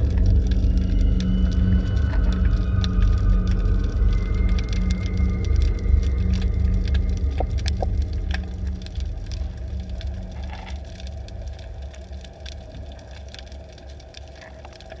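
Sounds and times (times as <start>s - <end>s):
low underwater hum and rumble: 0.0s - 15.0s
sharp clicks and crackles: 0.0s - 15.0s.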